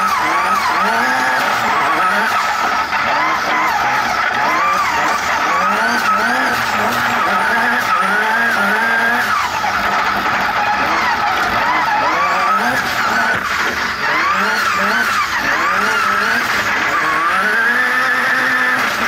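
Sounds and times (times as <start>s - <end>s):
turbocharged engine revving: 0.0s - 19.0s.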